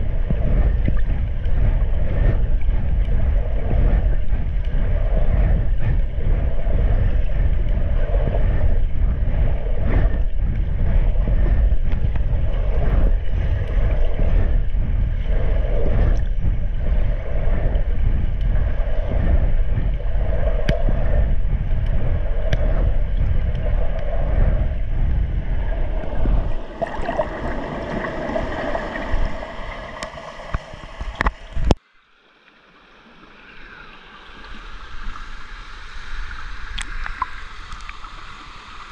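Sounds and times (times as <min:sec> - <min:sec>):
underwater churning water: 0:00.0 - 0:38.9.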